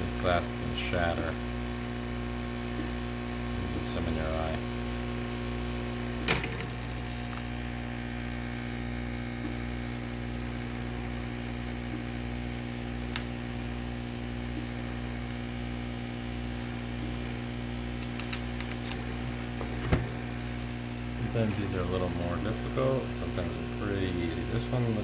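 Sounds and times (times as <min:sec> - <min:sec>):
electric machine humming: 0:00.0 - 0:25.0.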